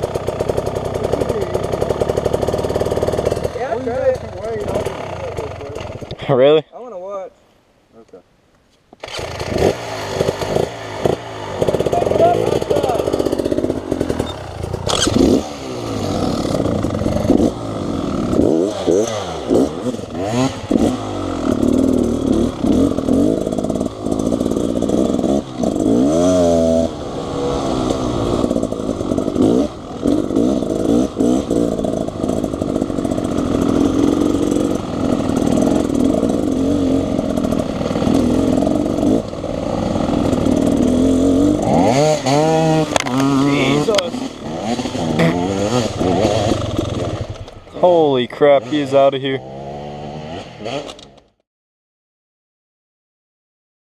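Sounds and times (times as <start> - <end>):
dirt bike engine revving: 0.0 - 6.3, 9.0 - 51.2.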